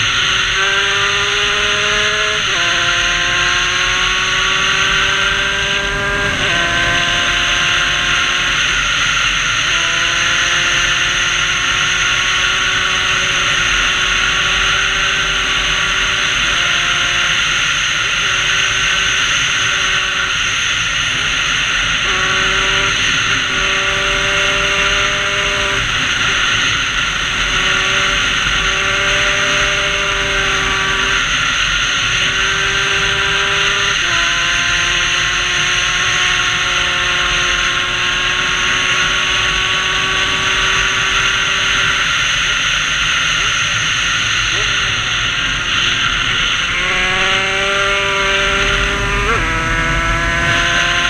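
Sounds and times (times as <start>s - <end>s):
two-stroke engine at high revs: 0.0s - 51.0s.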